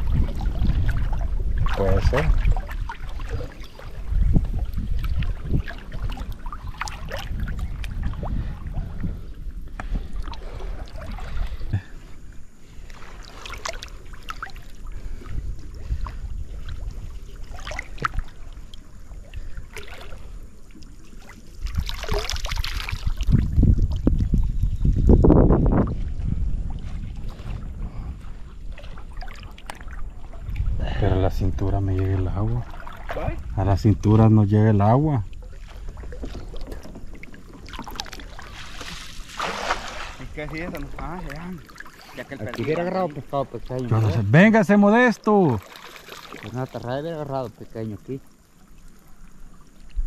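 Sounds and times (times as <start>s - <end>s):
wind rumbling on microphone: 0.0s - 44.8s
water sloshing and splashing: 0.0s - 50.0s.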